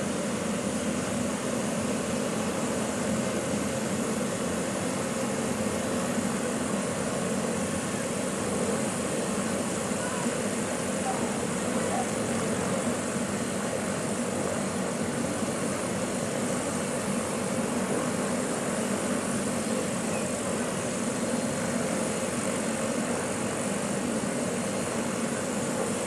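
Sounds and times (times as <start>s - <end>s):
helicopter turbine whine: 0.0s - 26.0s.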